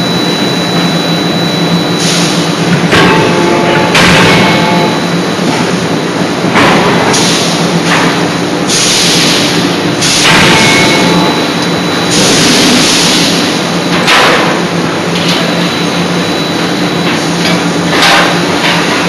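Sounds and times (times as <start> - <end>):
hydraulic hum: 0.0 - 19.0.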